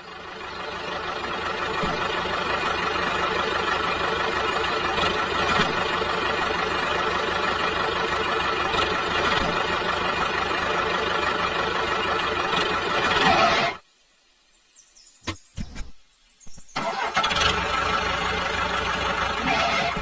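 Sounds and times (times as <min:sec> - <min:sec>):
engine idling: 0:00.0 - 0:13.8, 0:16.8 - 0:20.0.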